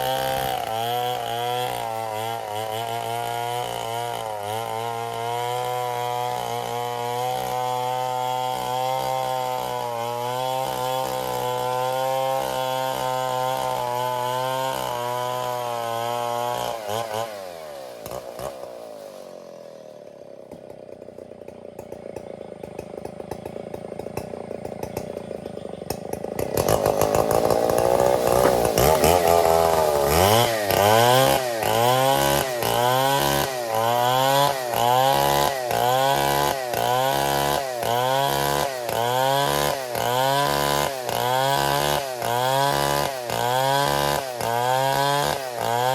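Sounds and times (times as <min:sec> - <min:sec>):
chainsaw running: 0:00.0 - 0:45.9.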